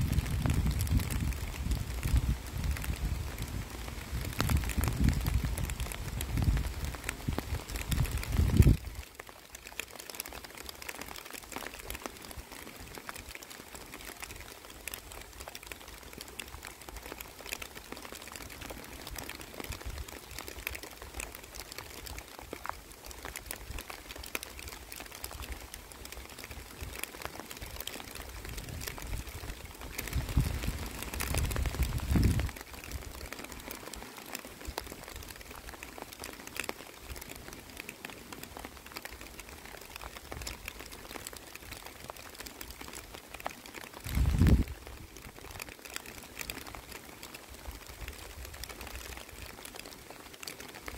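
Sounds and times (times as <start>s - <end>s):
rain pattering on pond water: 0.0s - 50.9s.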